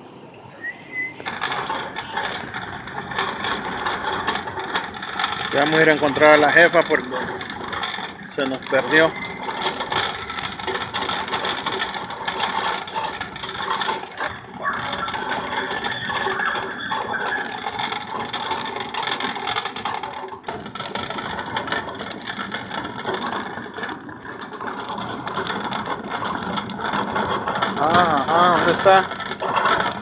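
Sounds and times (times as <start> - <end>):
shopping cart rattling: 1.0 - 30.0.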